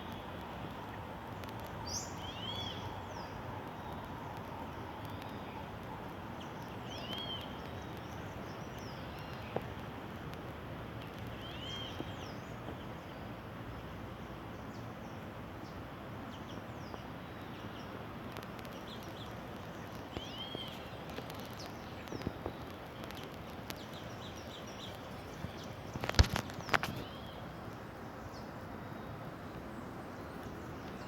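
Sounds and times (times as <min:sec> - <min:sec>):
birds chirping: 0:00.0 - 0:09.8, 0:14.7 - 0:31.0
steady background noise: 0:00.0 - 0:31.0.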